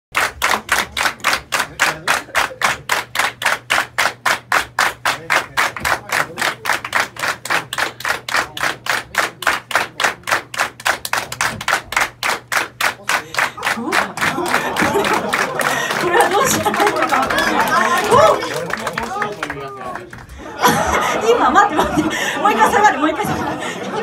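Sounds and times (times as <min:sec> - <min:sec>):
crowd clapping in unison: 0:00.1 - 0:23.2.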